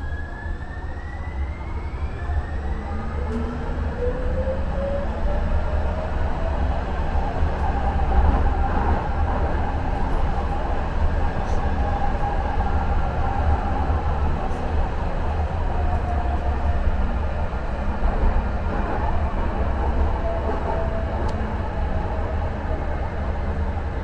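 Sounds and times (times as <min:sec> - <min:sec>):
light-rail car rumbling on rails: 0:00.0 - 0:24.0.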